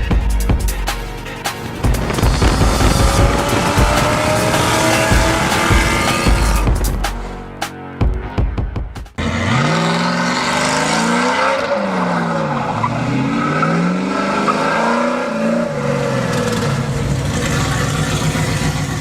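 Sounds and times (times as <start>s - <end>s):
car engine revving: 1.2s - 7.4s, 9.1s - 19.0s.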